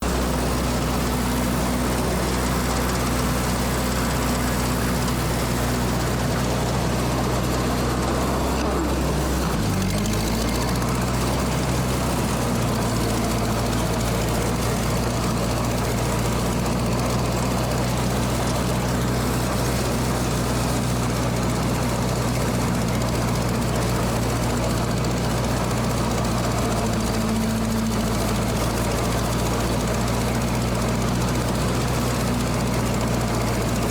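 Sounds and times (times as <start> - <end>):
tractor engine running under load: 0.0 - 33.9.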